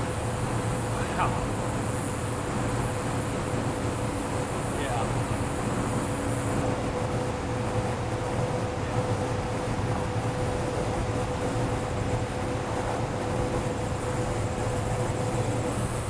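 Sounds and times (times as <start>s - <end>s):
constant low hum: 0.0s - 16.0s
wind: 0.0s - 16.0s.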